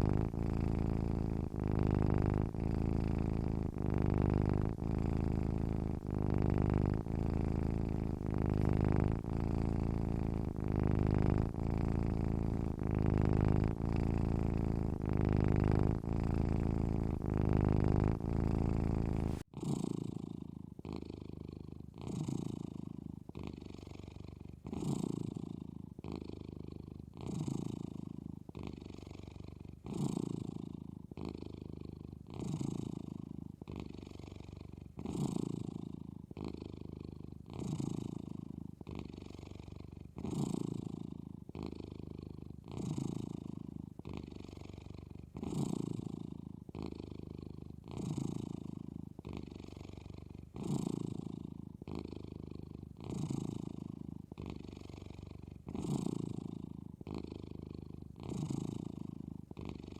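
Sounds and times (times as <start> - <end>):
cat snoring: 0.0 - 59.9.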